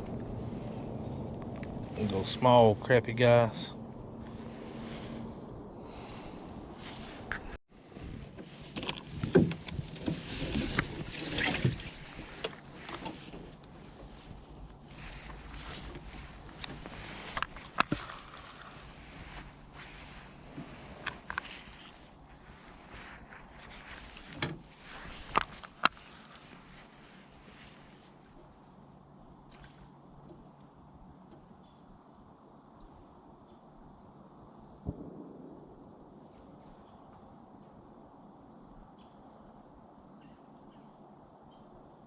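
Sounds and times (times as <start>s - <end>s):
crickets chirring: 0.0s - 42.0s.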